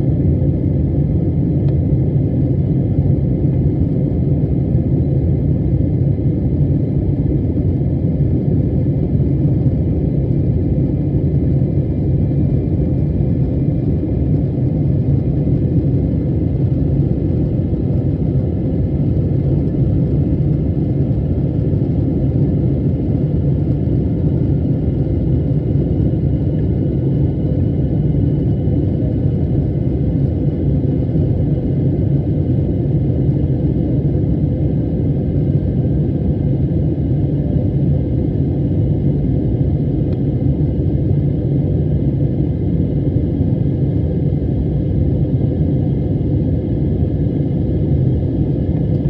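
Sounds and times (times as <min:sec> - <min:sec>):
jet engine rumble in cabin: 0:00.0 - 0:49.0.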